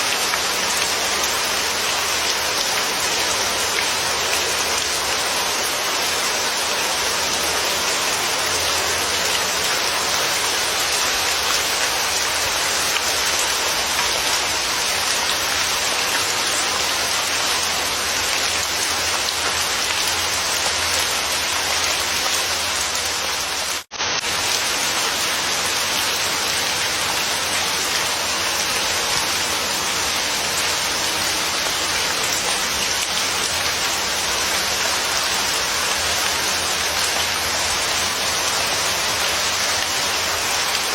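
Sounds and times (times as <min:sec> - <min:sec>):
dense rain falling: 0:00.0 - 0:40.9.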